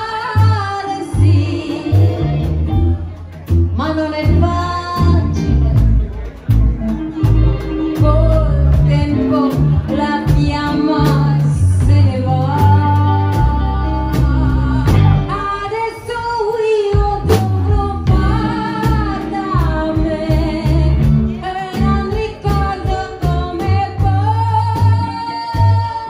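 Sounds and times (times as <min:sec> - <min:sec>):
woman singing: 0:00.0 - 0:03.0, 0:03.7 - 0:05.7, 0:07.6 - 0:26.0
electric guitar: 0:00.0 - 0:26.0
upright double bass: 0:00.0 - 0:26.0.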